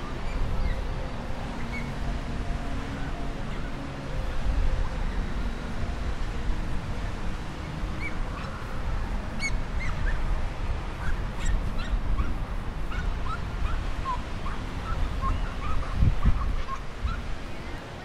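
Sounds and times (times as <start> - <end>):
flock of birds calling: 0.0 - 5.8, 6.9 - 10.3, 10.9 - 18.0
wind buffeting microphone: 0.0 - 18.0.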